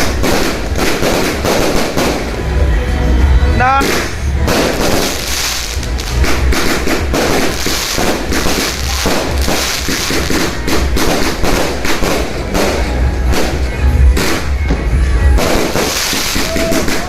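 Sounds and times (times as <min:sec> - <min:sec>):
fireworks deep booms: 0:00.0 - 0:02.5, 0:03.8 - 0:17.0
firecrackers crackling: 0:00.0 - 0:17.0.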